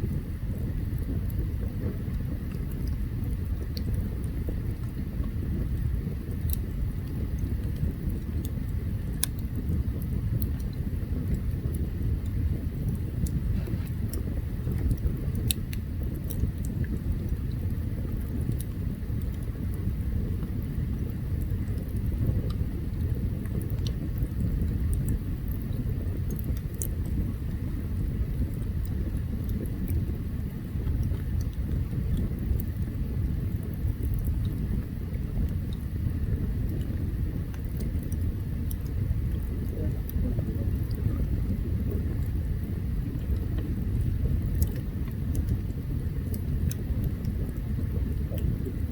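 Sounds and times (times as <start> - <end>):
campfire crackling and popping: 0.0 - 48.9
low rumble: 0.0 - 48.9.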